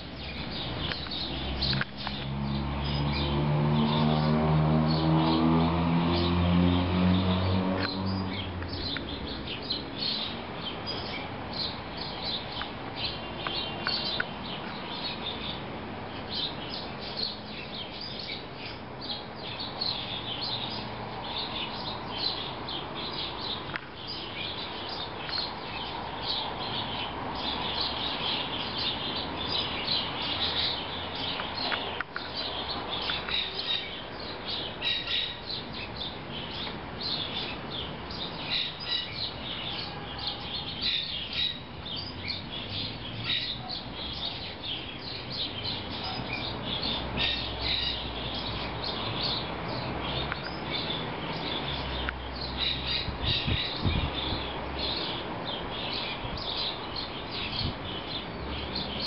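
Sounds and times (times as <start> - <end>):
small birds chirping: 0.0 - 59.0
steady background noise: 0.0 - 59.0.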